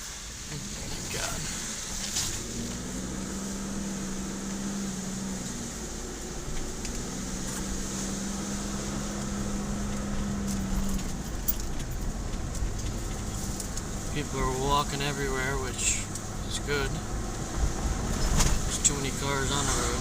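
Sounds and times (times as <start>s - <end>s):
car engine and fan hum: 0.0s - 20.0s.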